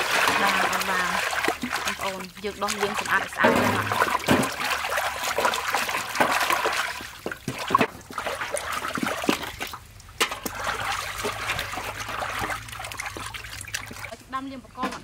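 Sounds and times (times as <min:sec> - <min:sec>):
water splashing in metal basin: 0:00.0 - 0:15.0.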